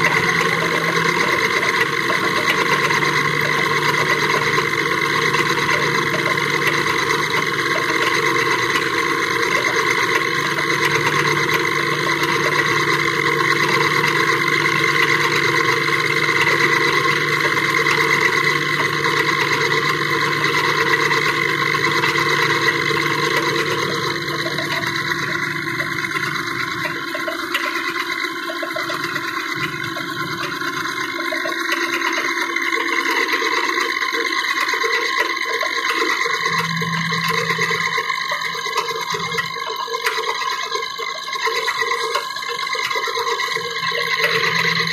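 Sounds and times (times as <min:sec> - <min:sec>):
machine tool humming: 0:00.0 - 0:44.9.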